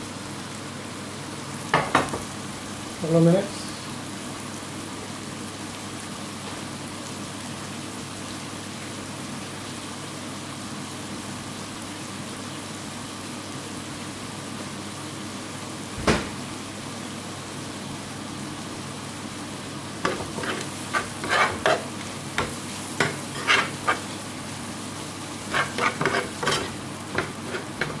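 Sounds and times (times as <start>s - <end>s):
food sizzling in frying pan: 0.0s - 28.0s.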